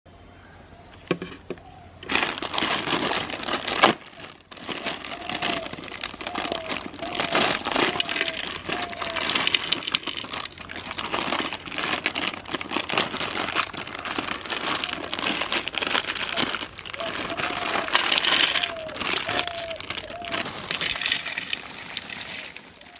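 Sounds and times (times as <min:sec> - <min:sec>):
meat grinder crunching: 0:02.0 - 0:22.9.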